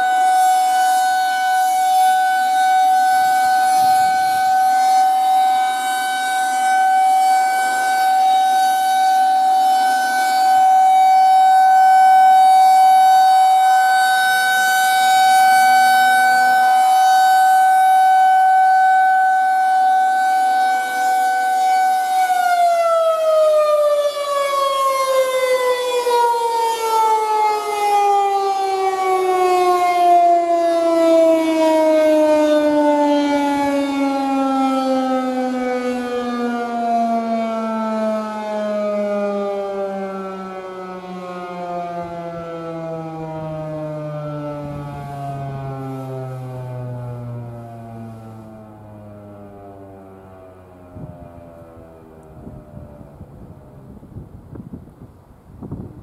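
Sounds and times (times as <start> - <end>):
rotating siren wailing: 0.0 - 54.7.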